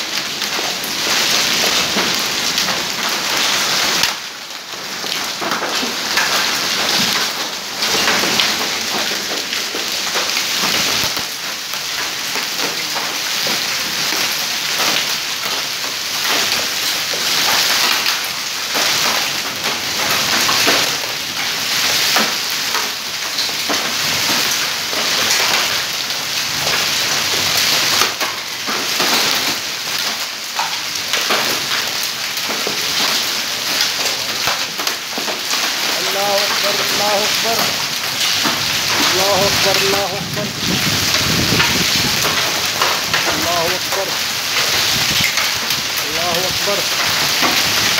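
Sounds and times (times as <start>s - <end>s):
hail and rain pelting pavement: 0.0s - 47.9s.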